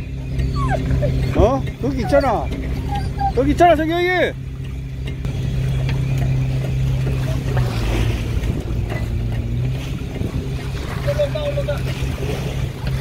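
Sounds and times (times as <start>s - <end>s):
boat engine droning: 0.0s - 13.0s
water rushing along hull: 0.0s - 13.0s
wind: 0.0s - 13.0s.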